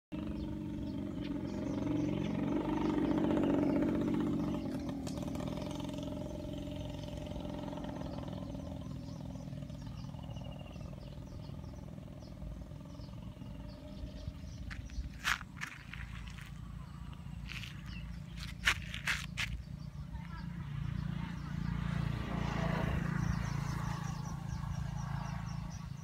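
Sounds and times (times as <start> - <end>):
vehicle engine running: 0.1 - 26.0.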